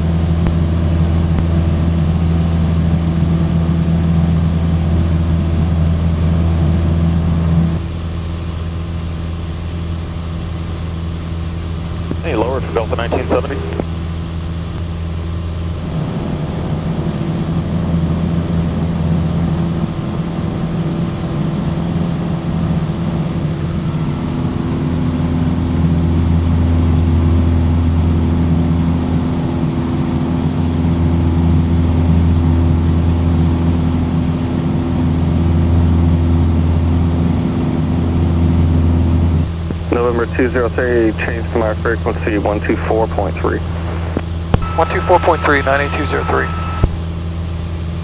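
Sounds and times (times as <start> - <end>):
propeller plane engine drone: 0.0 - 48.0.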